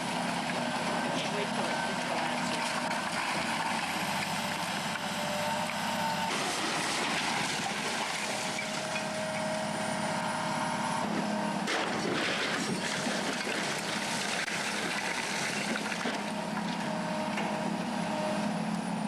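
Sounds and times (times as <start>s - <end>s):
heavy machinery engine running: 0.0s - 19.0s.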